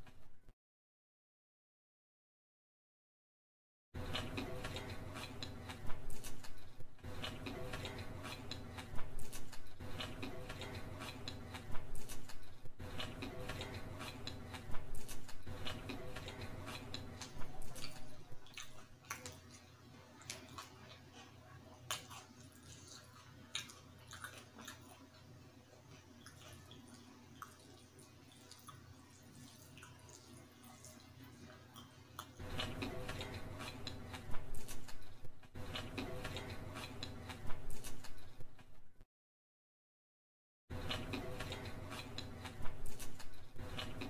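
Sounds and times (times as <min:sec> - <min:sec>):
wet chewing: 0:04.0 - 0:38.8, 0:40.7 - 0:44.0.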